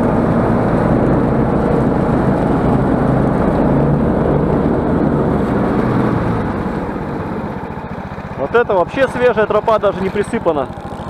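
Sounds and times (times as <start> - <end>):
snowmobile engine droning: 0.0 - 11.0.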